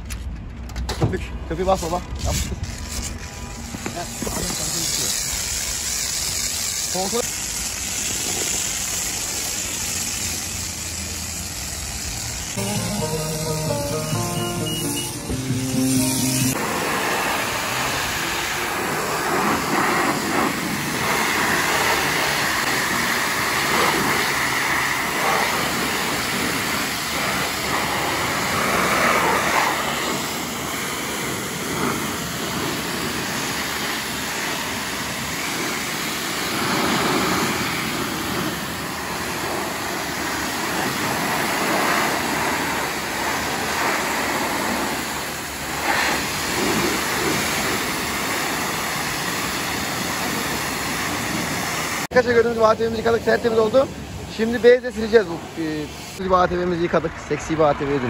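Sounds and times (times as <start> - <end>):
pressure washer spraying: 1.6 - 56.2.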